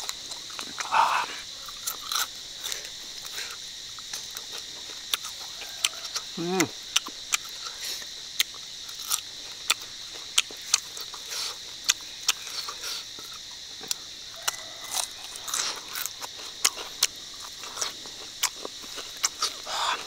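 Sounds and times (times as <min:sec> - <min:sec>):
crunching crispy insects: 0:00.0 - 0:20.0.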